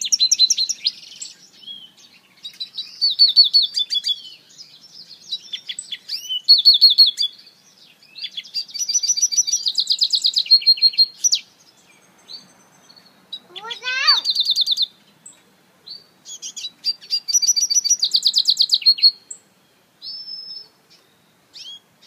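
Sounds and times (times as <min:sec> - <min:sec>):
finch singing trills: 0:00.0 - 0:22.0.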